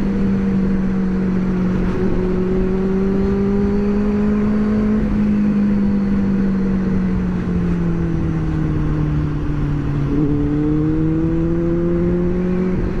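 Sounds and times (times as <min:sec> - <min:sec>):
motorcycle engine and exhaust: 0:00.0 - 0:13.0.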